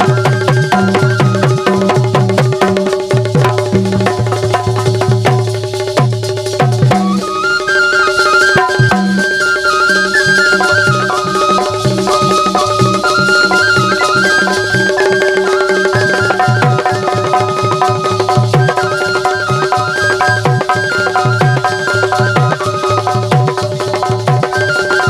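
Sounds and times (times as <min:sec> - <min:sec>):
hand drums: 0:00.0 - 0:25.0.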